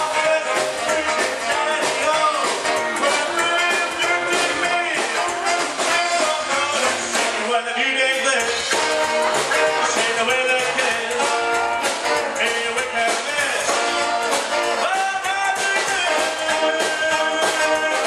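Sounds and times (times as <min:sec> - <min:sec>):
electric guitar: 0:00.0 - 0:18.0
rock and roll band playing: 0:00.0 - 0:18.0
upright double bass: 0:00.0 - 0:18.0.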